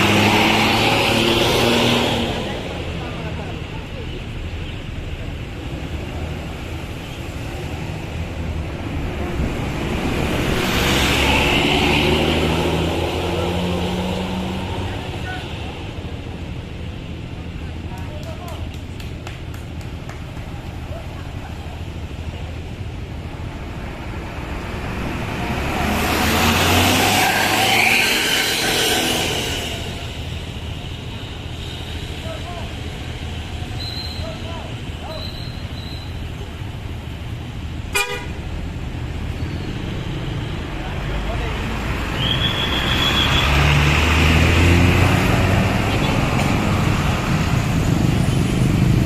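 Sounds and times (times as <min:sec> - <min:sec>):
bus engine rumbling: 0:00.0 - 0:27.6, 0:29.0 - 0:49.0.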